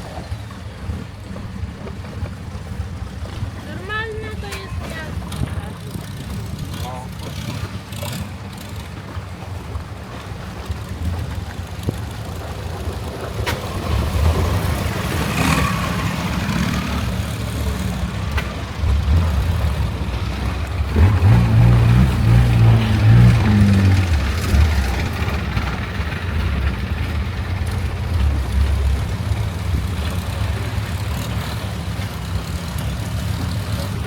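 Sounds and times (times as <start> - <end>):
boat engine humming: 0.0 - 34.0.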